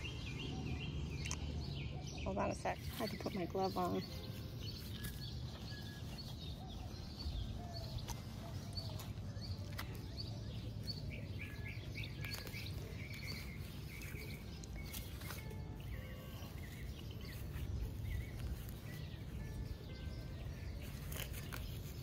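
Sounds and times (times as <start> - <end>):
small birds chirping: 0.0 - 22.0
hand digger scraping soil: 2.4 - 22.0.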